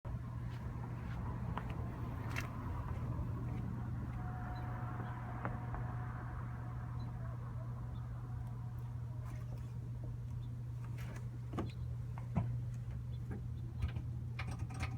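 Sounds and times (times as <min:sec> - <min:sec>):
car engine idling: 0:00.1 - 0:14.6.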